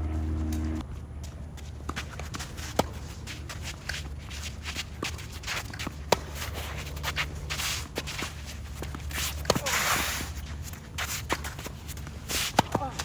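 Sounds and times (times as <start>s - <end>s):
shoes scuffing on court: 0.9s - 13.0s.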